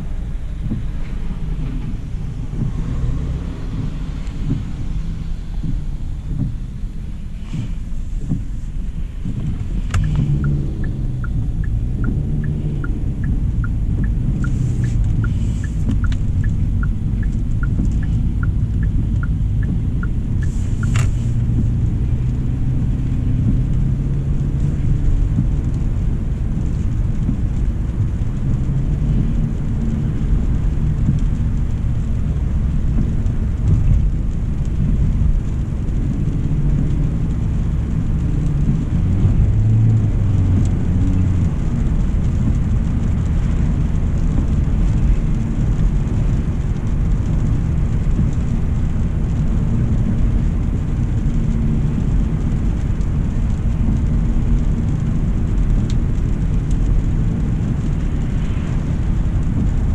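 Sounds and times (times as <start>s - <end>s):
car road rumble: 0.0s - 59.9s
turn signal ticking: 0.0s - 59.9s.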